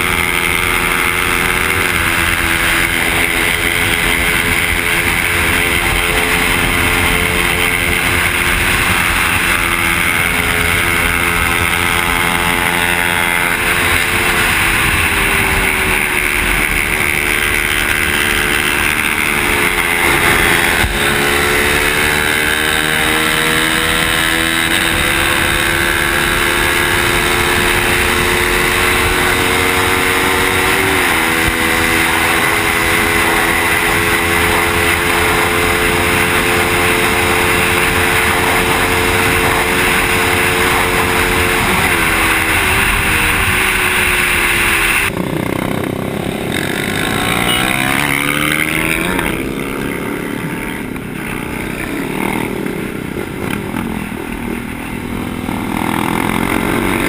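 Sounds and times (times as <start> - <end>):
heavy wind rush: 0.0 - 47.3
motorcycle engine accelerating: 0.0 - 57.0.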